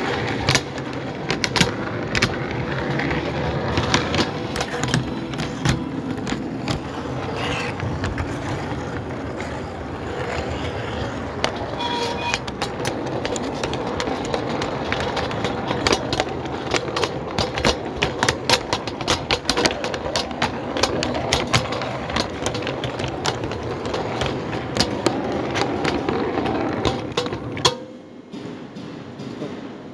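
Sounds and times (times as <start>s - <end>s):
model train rolling on track: 0.0s - 27.8s
wheels clicking over rail joints: 0.0s - 29.9s.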